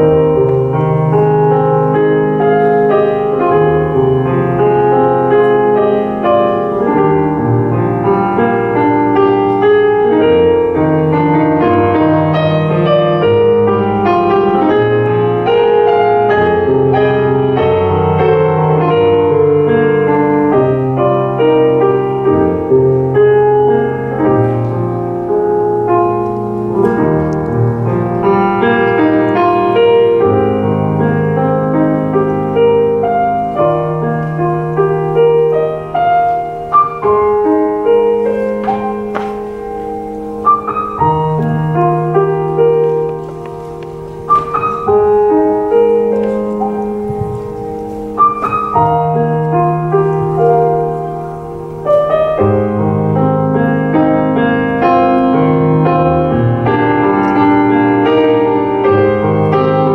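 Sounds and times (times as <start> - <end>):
solo grand piano: 0.0 - 59.9.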